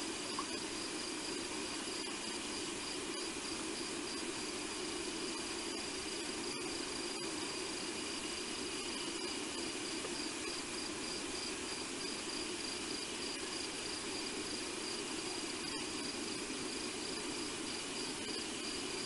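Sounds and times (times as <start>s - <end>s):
crickets trilling: 0.0s - 19.0s
low steady hiss: 0.0s - 19.0s.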